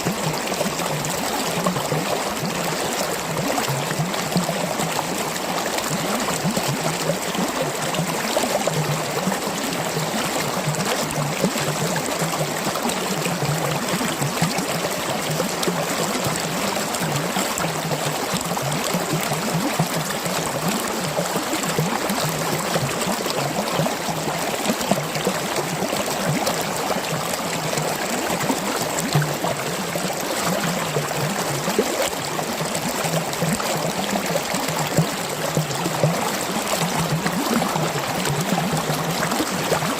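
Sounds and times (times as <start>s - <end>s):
stream flowing and gurgling: 0.0s - 39.9s.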